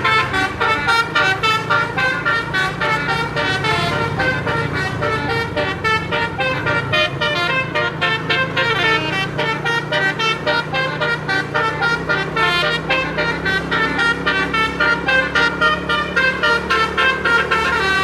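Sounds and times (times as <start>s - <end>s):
bus air horn playing tune: 0.0s - 18.0s.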